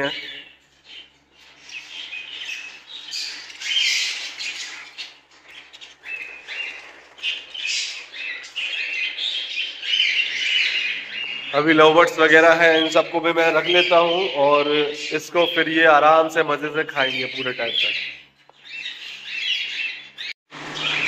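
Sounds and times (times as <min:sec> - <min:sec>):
budgerigars chirping: 0:00.0 - 0:16.2, 0:16.8 - 0:21.0.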